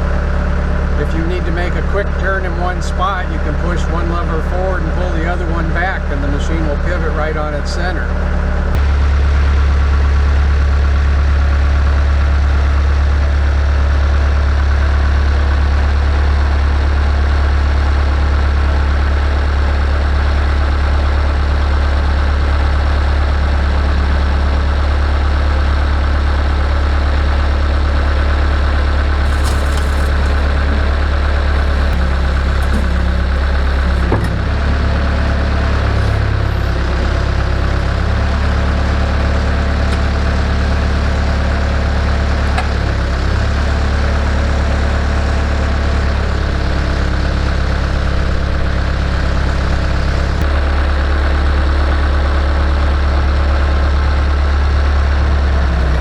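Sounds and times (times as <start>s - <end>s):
loader engine droning: 0.0s - 56.0s.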